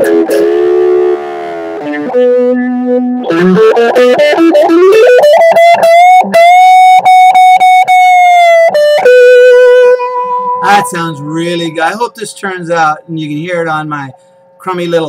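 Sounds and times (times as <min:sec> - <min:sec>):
distorted electric guitar: 0:00.0 - 0:14.9.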